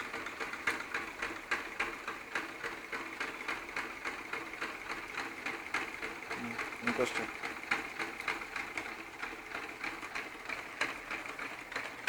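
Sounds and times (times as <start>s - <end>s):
piston engine clicking: 0.0s - 12.0s.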